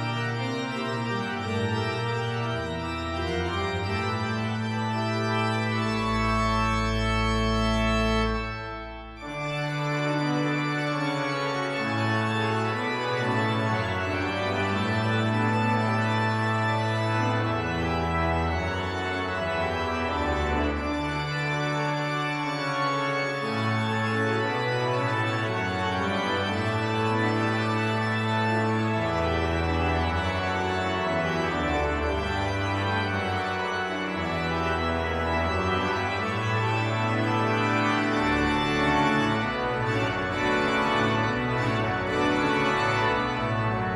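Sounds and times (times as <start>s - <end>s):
church organ chords: 0.0s - 43.9s.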